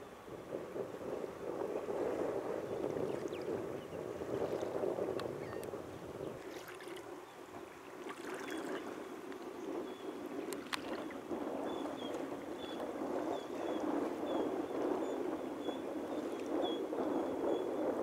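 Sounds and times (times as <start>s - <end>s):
small waves lapping against hull: 0.3s - 18.0s.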